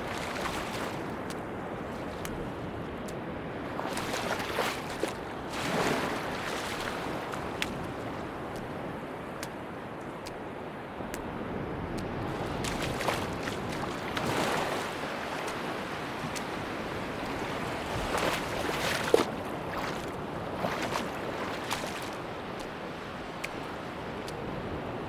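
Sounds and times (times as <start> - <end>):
small water splashes: 0.0 - 25.0
waves washing on a beach: 0.0 - 25.0.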